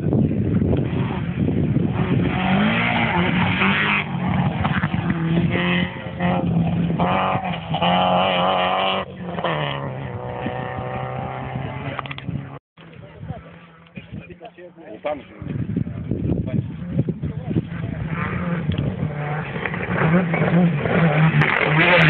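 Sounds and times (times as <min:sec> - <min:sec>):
rally car engine revving: 0:00.0 - 0:12.6, 0:16.6 - 0:22.0.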